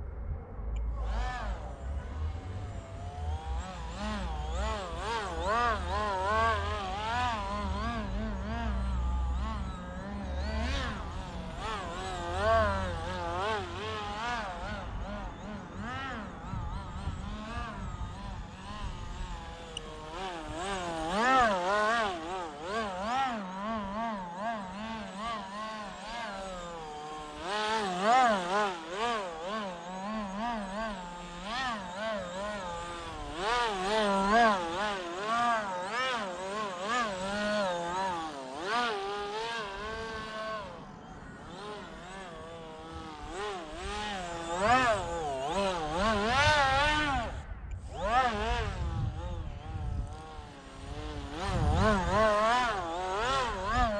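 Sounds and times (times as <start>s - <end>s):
model aircraft motor whine: 0.0s - 53.9s.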